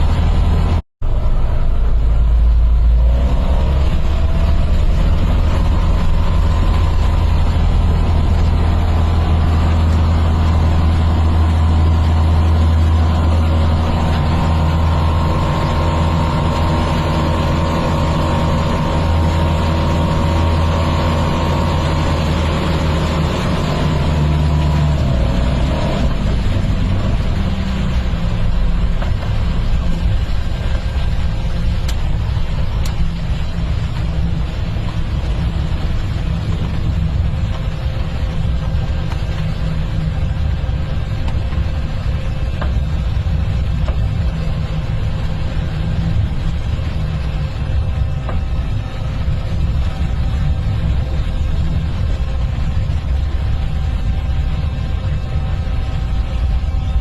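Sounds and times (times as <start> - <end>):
engine rumbling with whine: 0.0 - 57.0.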